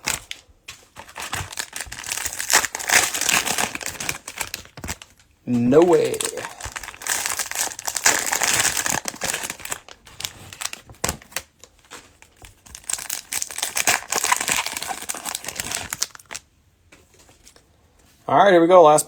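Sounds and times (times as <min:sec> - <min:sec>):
cellophane wrapping crinkling: 0:00.0 - 0:16.5.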